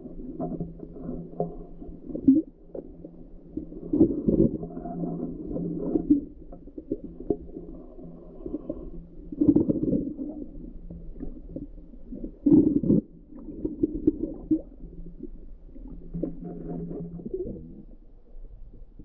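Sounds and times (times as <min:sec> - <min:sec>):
muffled underwater water rumble: 0:00.0 - 0:19.0.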